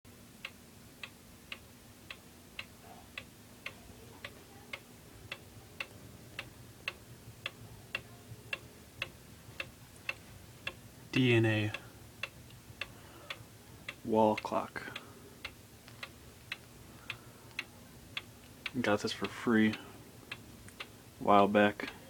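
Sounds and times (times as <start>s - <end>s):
clock pendulum ticking: 0.4s - 22.0s.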